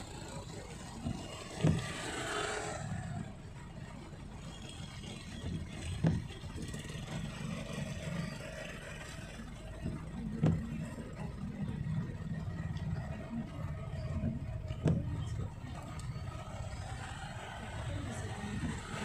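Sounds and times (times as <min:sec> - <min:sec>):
car engines and slow traffic: 0:00.0 - 0:19.0.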